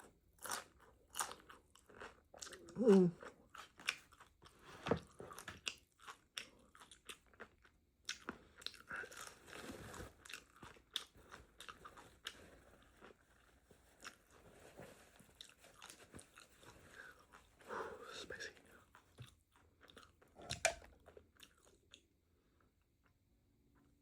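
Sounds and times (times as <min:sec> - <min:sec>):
person chewing crunchy food: 0:00.0 - 0:18.1, 0:18.7 - 0:22.7.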